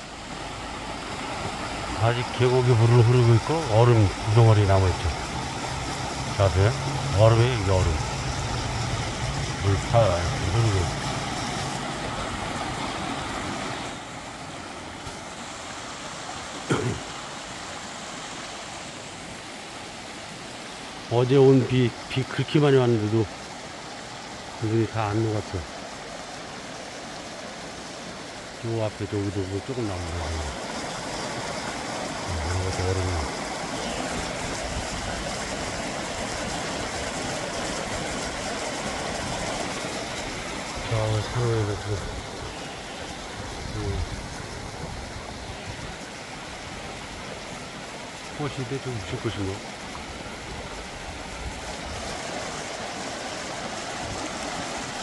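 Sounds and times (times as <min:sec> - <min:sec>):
mountain stream over stones: 0:00.0 - 0:55.0.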